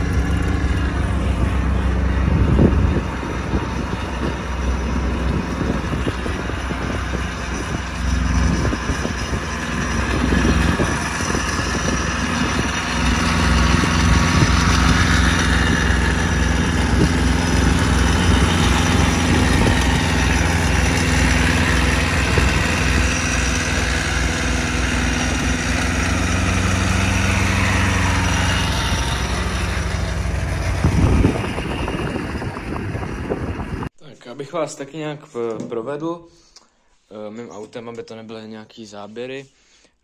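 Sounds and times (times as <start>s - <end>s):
car engine running: 0.0s - 33.9s
tyre and wind noise: 0.0s - 33.9s.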